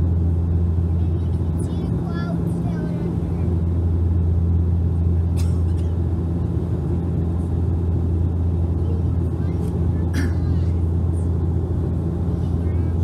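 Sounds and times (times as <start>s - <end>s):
turboprop engines droning in cabin: 0.0s - 13.0s.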